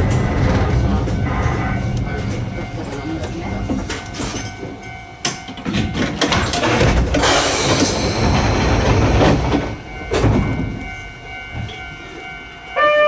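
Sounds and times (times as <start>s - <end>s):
train wheels clicking over rail joints: 0.0s - 12.8s
train running noise: 0.0s - 13.0s.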